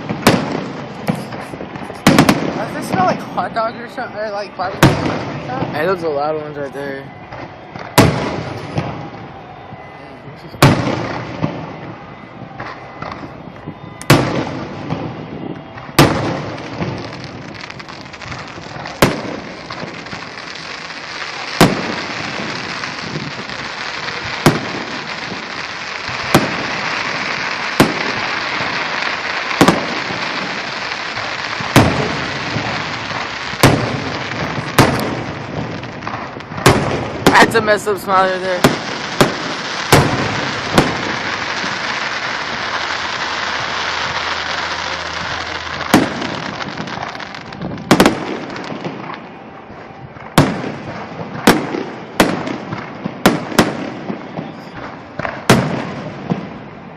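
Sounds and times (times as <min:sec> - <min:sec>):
firework crackling: 0:00.0 - 0:56.9.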